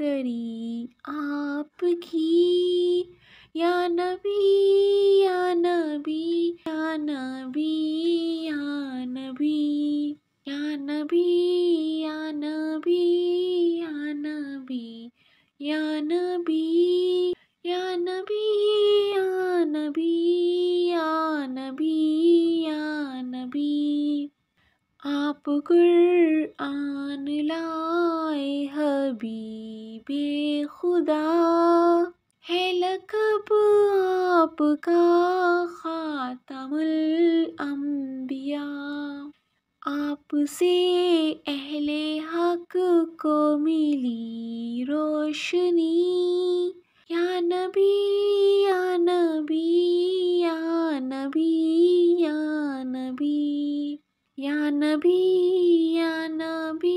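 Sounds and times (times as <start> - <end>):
woman singing unaccompanied: 0.0 - 24.4, 25.0 - 56.9.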